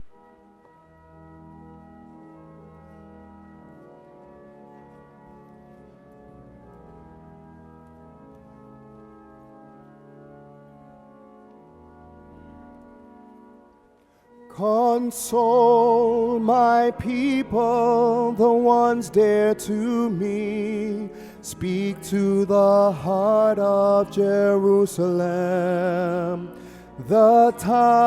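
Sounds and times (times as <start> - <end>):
church organ sustained chords: 0.0 - 28.0.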